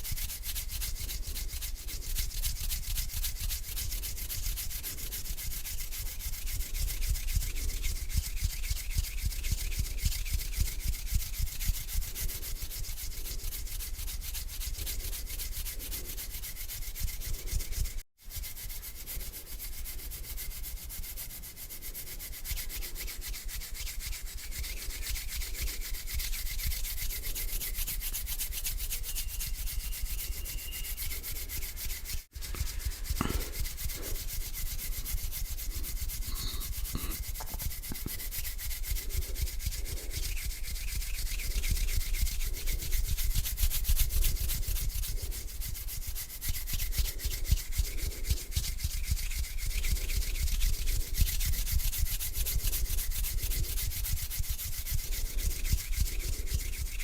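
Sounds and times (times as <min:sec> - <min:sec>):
hands rubbing together: 0:00.0 - 0:57.0.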